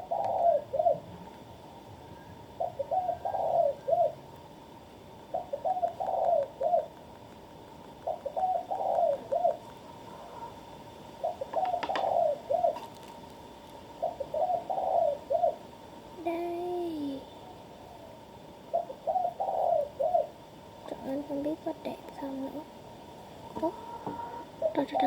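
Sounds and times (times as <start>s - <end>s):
dove cooing: 0.0s - 4.4s, 5.2s - 13.2s, 13.8s - 25.0s.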